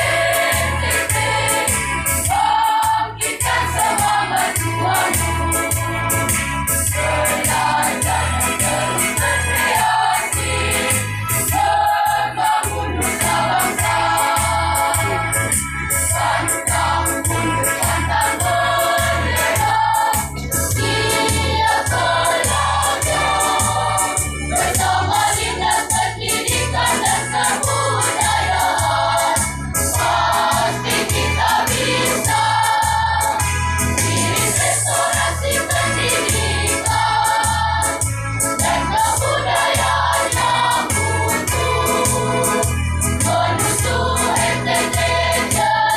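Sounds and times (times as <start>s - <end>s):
choir singing in parts: 0.0s - 45.9s
pulsing bass beat: 0.0s - 45.9s.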